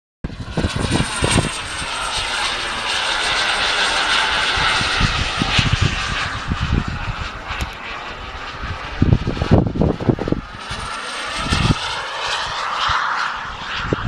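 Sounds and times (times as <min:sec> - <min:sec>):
model airplane engine buzzing: 0:00.3 - 0:14.0.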